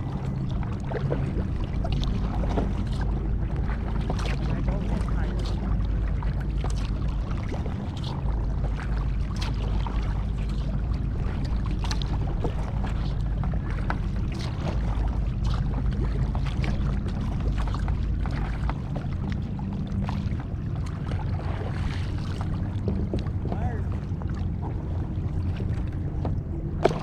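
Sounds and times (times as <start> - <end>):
paddle splashing water: 0.0 - 27.0
wind on microphone: 0.0 - 27.0.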